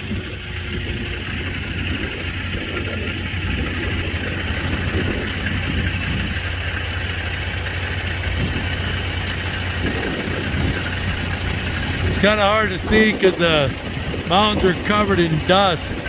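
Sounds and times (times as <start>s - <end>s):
wind noise: 0.0s - 6.9s, 8.0s - 16.0s
road noise: 0.0s - 16.0s
truck engine droning: 0.0s - 16.0s.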